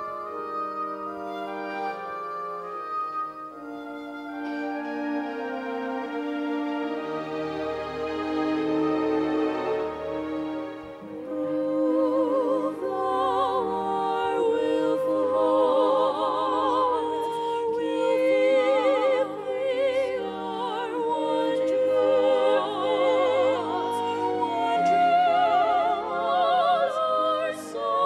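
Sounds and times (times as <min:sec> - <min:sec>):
sustained accompaniment: 0:00.0 - 0:28.0
women singing in harmony: 0:03.5 - 0:28.0.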